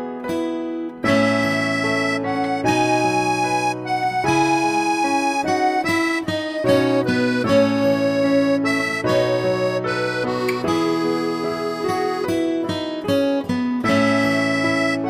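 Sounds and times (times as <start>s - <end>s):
instrumental music with held chords: 0.0s - 15.0s.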